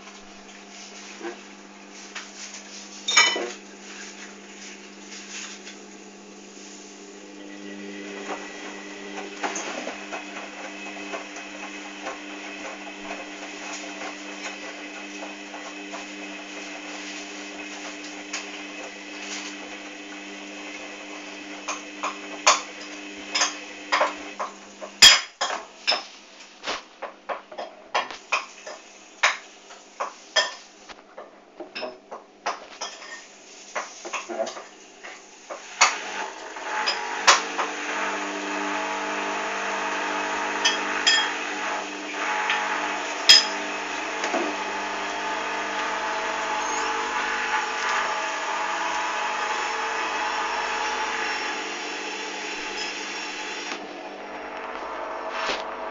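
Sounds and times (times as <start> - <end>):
washing machine motor hum: 0.0 - 25.8, 33.3 - 55.9.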